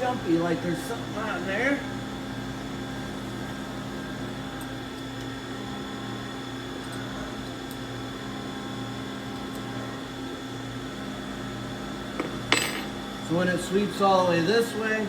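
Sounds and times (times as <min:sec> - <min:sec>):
machine-shop equipment humming: 0:00.0 - 0:15.0.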